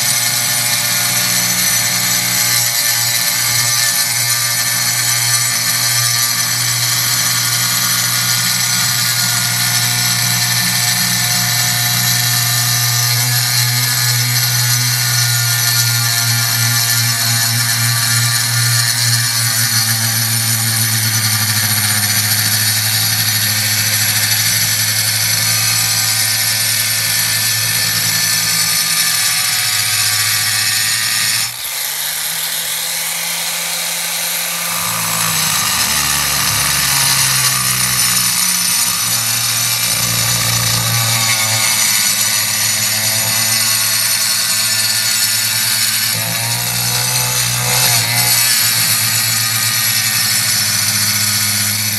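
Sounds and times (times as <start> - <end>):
angle grinder cutting board: 0.0 - 51.9.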